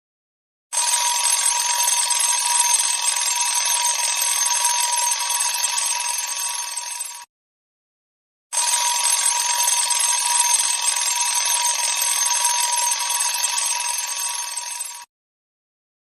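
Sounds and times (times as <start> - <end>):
alarm clock bell ringing: 0.8 - 7.3, 8.6 - 15.1.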